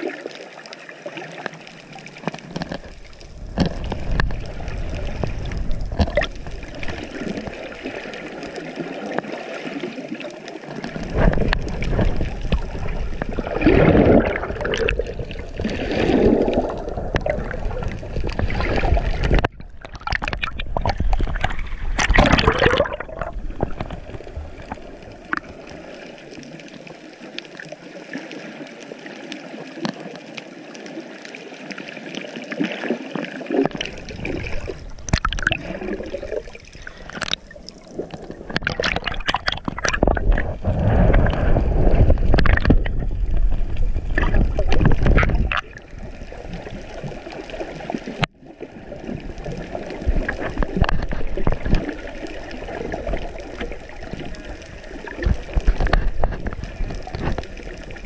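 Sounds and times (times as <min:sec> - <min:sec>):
muffled underwater gurgling: 0:00.0 - 0:27.8, 0:32.4 - 0:58.0.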